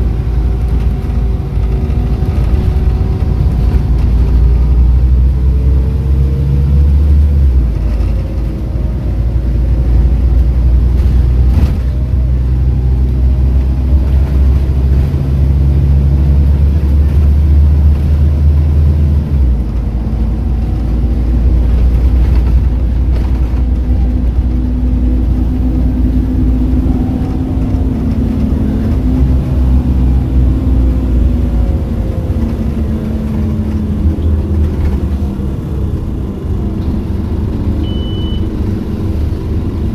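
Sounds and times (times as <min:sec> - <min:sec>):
bus diesel engine droning: 0:00.0 - 0:39.9
road noise: 0:00.0 - 0:39.9.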